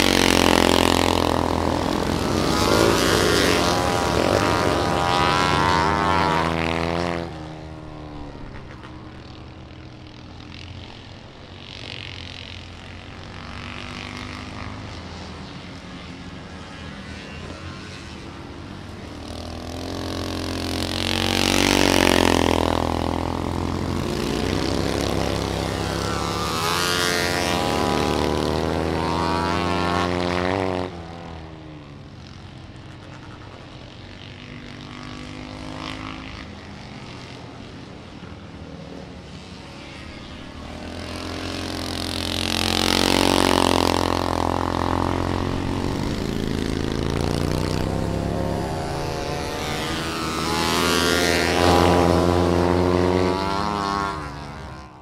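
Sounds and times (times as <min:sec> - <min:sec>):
motorcycles revving and passing: 0:00.0 - 0:55.0.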